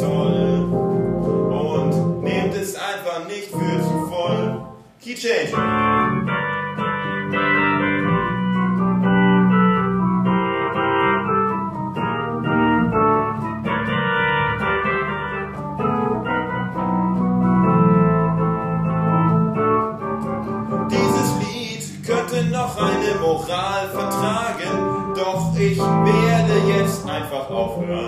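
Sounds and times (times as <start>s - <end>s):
keyboard chords and melody: 0.0s - 28.0s.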